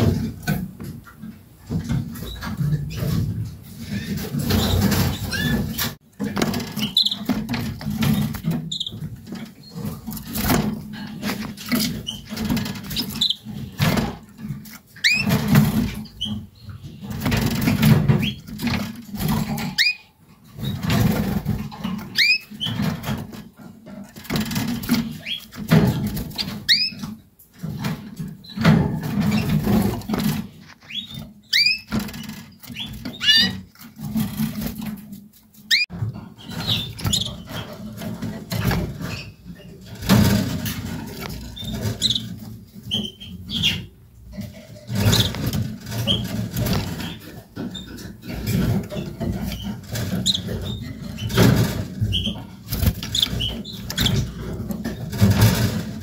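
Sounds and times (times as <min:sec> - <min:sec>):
wings fluttering and rustling: 0:00.0 - 0:56.0
canaries chirping: 0:01.8 - 0:56.0.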